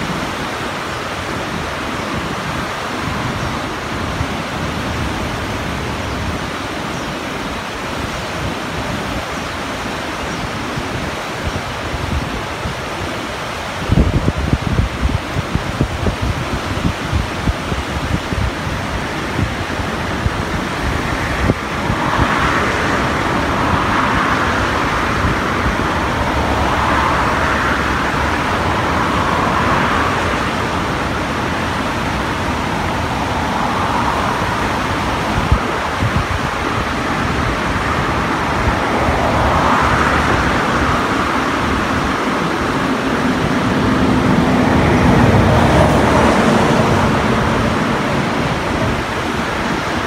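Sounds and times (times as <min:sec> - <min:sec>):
river rushing: 0:00.0 - 0:50.0
wind buffeting microphone: 0:00.0 - 0:50.0.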